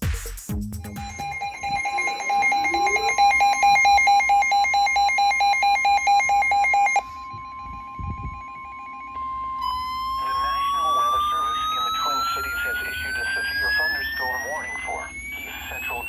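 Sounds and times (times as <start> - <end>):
rapid beeping alarm: 0.6 - 16.0
steady high warning tone: 0.6 - 16.0.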